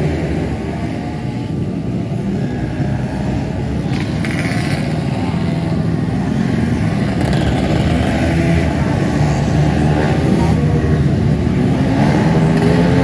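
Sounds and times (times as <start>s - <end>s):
small motorcycle engines revving: 0.0s - 13.0s.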